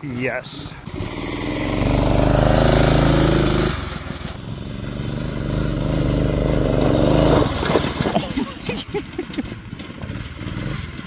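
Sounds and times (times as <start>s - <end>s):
go-kart engine revving: 0.6s - 11.0s.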